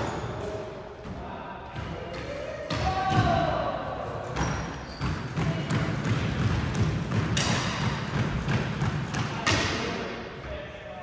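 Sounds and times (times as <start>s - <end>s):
squash balls striking rackets and walls: 0.0s - 10.2s.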